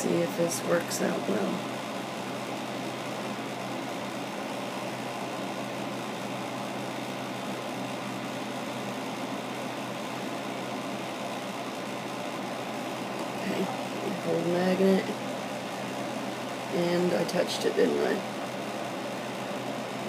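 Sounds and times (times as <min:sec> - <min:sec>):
room noise hum and hiss: 0:00.0 - 0:20.0.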